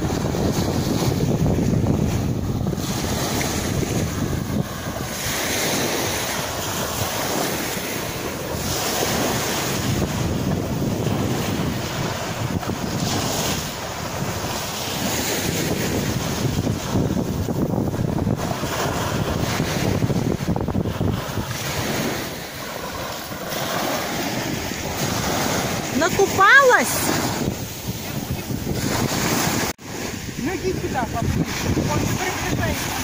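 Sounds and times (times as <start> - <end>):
small waves breaking on beach: 0.0 - 33.0
wind rumble on microphone: 0.0 - 33.0.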